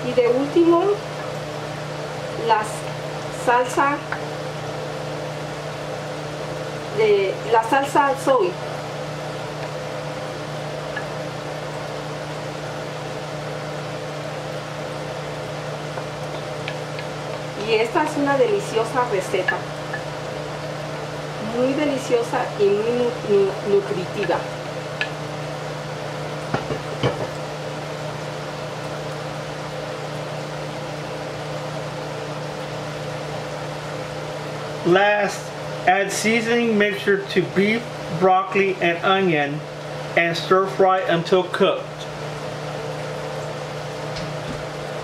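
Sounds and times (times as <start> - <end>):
fan motor humming with hiss: 0.0 - 45.0.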